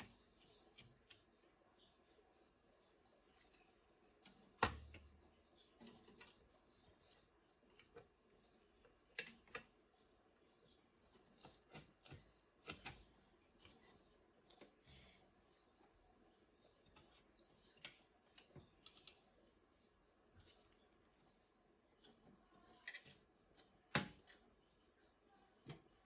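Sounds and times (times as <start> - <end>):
faint clicks and taps: 0.0 - 26.0.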